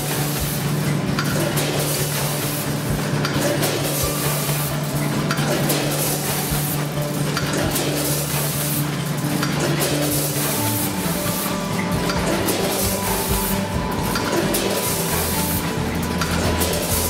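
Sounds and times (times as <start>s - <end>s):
bagging machine mechanical noise: 0.0s - 17.0s.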